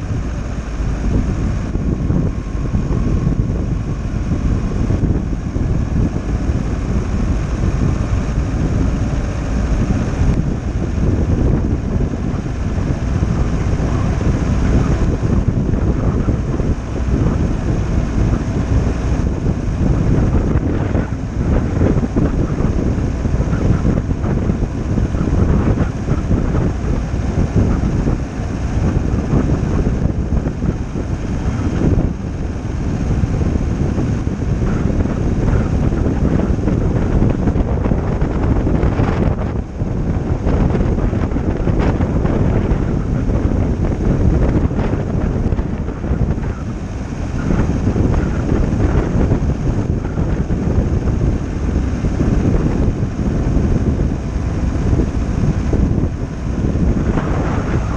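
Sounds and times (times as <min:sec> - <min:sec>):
van road noise: 0:00.0 - 0:57.9
wind buffeting microphone: 0:00.0 - 0:57.9.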